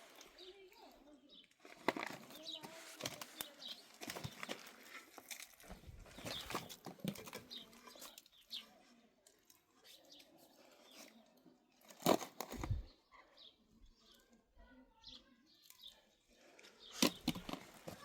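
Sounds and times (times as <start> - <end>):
birds chirping: 0.0 - 11.5, 12.4 - 18.0.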